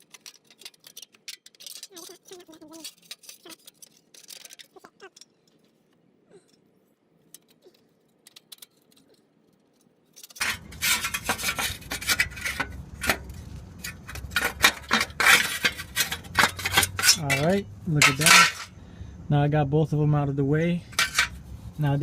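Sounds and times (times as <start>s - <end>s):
thin metal clinking and rattling: 0.0s - 18.8s, 20.9s - 21.4s.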